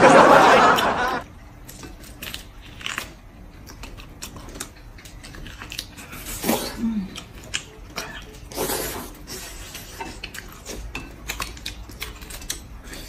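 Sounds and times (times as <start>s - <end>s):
person chewing: 1.6s - 13.0s.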